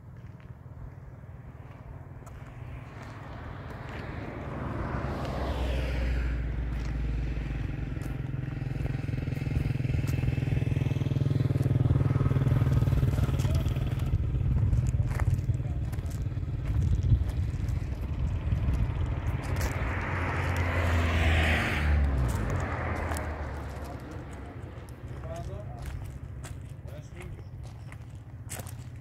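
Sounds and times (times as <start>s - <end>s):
footsteps on gravel: 0.0s - 5.8s, 6.5s - 29.0s
motor engine rumbling: 0.0s - 29.0s.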